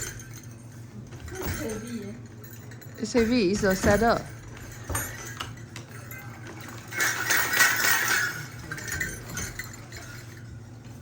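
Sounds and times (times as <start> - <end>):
props clinking and jingling: 0.0 - 11.0.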